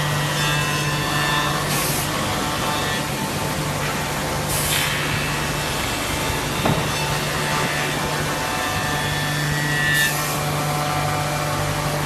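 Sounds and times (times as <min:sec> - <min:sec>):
wood shaper milling hum: 0:00.0 - 0:12.0.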